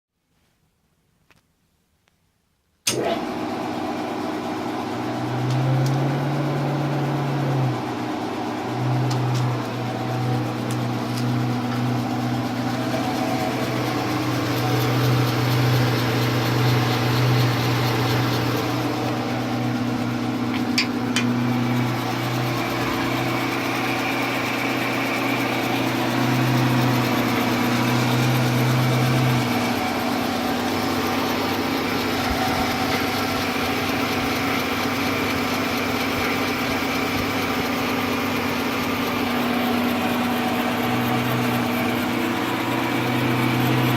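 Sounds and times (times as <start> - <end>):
metal lathe humming: 2.9 - 43.9.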